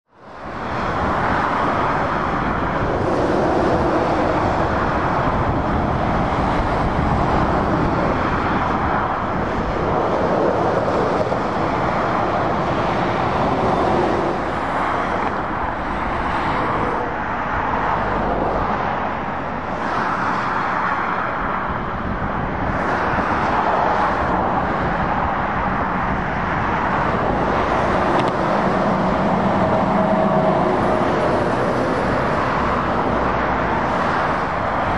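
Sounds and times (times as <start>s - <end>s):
diesel engine drone: 0.1s - 34.9s.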